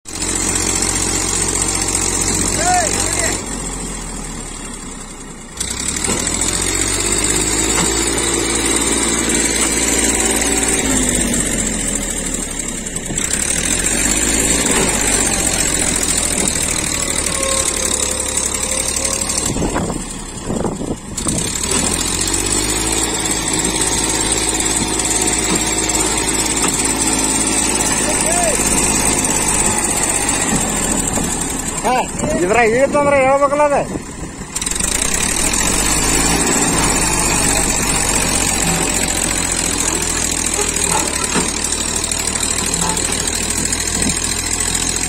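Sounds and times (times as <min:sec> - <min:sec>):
tractor diesel engine straining: 0:00.0 - 0:45.0.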